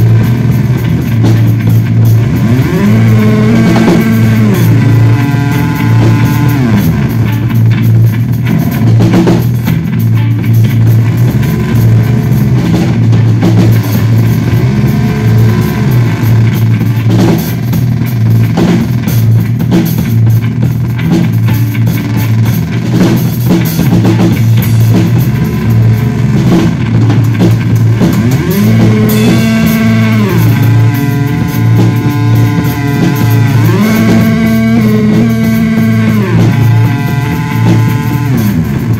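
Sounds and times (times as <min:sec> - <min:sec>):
drum hits: 0:00.0 - 0:38.9
electric bass guitar sliding notes: 0:00.0 - 0:38.9.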